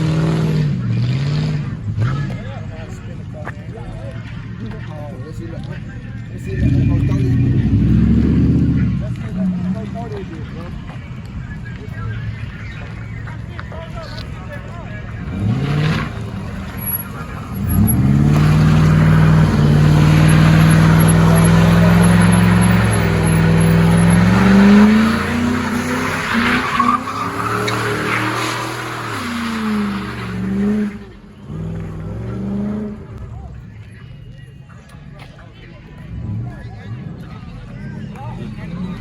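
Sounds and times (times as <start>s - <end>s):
car engine revving: 0.0s - 3.3s, 4.6s - 33.6s
tires squealing: 0.0s - 33.6s.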